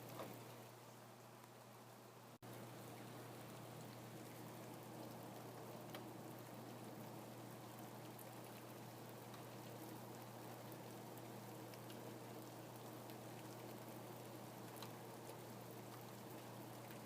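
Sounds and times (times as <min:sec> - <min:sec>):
faint steady rain: 0:00.0 - 0:17.0
low steady hum: 0:00.0 - 0:17.0
raindrops ticking: 0:02.5 - 0:17.0.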